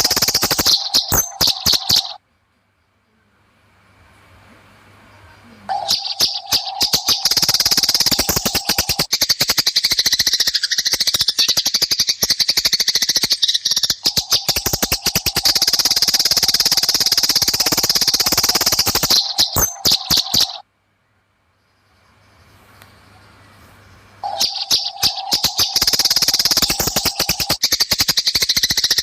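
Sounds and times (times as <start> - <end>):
sparrows chattering harshly: 0.0 - 2.2, 5.2 - 20.6, 21.9 - 29.0
steady low hum: 0.0 - 10.6, 11.3 - 27.6.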